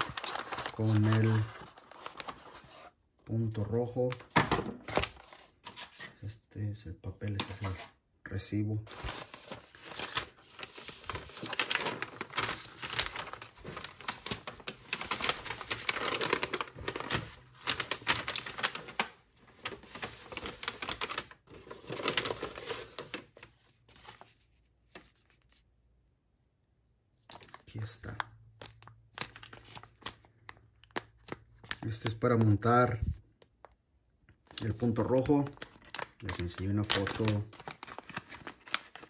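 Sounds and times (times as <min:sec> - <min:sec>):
packing paper crackling and rustling: 0:00.0 - 0:03.0, 0:03.9 - 0:06.1, 0:08.8 - 0:25.6, 0:27.2 - 0:33.6, 0:34.4 - 0:39.0.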